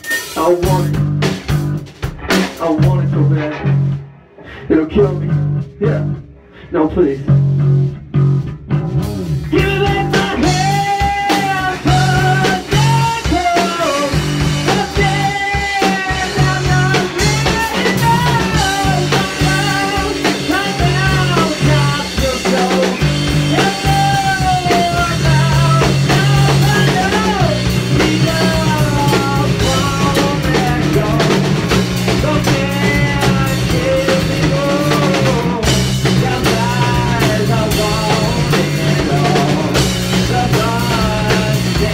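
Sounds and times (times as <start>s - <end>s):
drum kit: 0.0s - 41.9s
electric bass: 0.0s - 41.9s
electric guitar: 0.0s - 41.9s.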